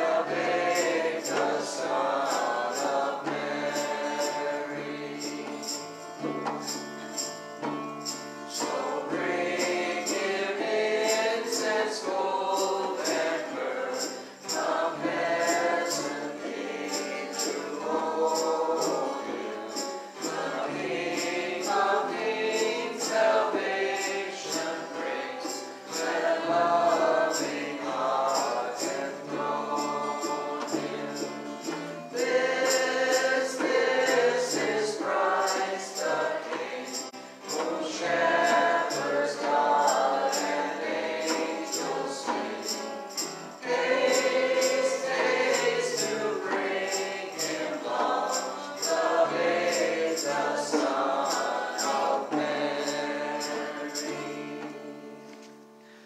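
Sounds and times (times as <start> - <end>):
band singing a hymn: 0.0 - 6.0, 8.5 - 55.2
jingling percussion: 0.0 - 55.3
guitars: 0.0 - 56.0.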